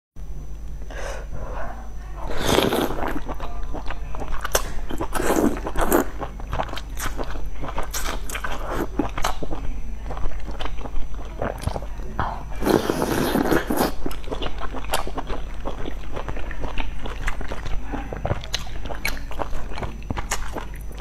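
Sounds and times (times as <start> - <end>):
slurping: 2.2 - 11.9, 12.6 - 21.0
wet chewing: 2.3 - 21.0.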